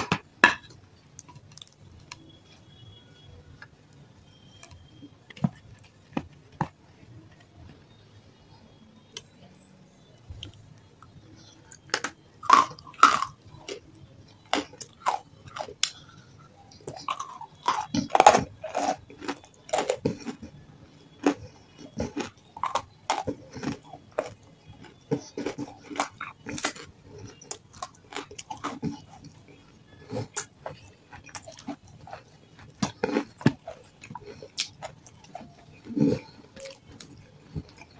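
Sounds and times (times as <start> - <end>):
crunching and chewing clay: 0.0 - 8.0, 9.1 - 37.9.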